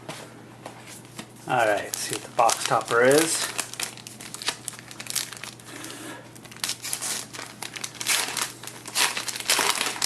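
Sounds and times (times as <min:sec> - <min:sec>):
wrapper crinkling: 0:01.5 - 0:10.0.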